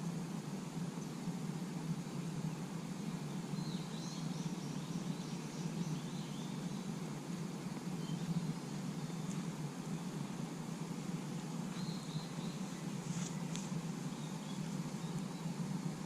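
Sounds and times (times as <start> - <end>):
small bird chirping: 1.9 - 7.0, 7.8 - 15.8.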